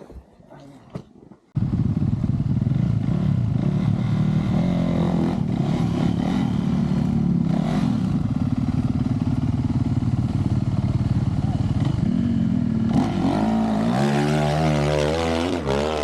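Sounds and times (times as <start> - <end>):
dirt bike engine revving: 1.6 - 16.0.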